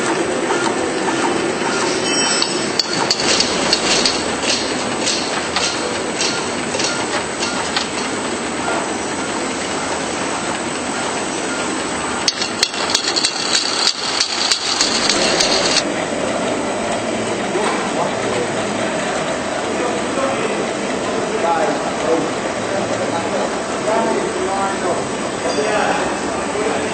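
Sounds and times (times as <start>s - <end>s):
labelling machine clattering: 0.0s - 26.9s
machine hum: 0.0s - 26.9s.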